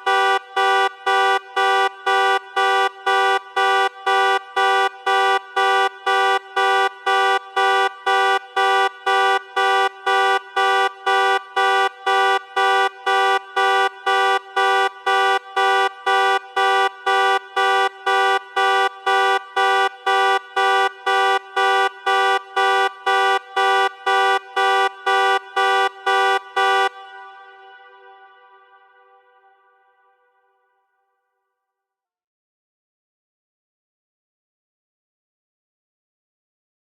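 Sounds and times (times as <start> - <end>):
car alarm horn beeping: 0.0 - 30.2.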